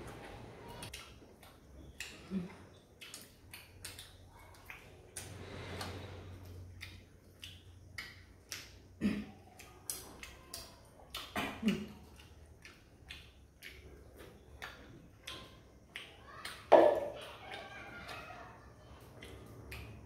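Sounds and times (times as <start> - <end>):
smacking and chewing: 0.0 - 20.0.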